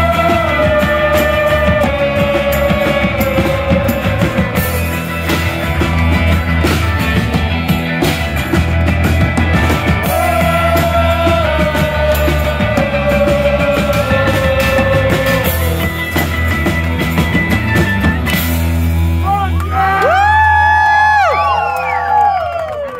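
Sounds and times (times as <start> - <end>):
live rock band playing: 0.0 - 20.2.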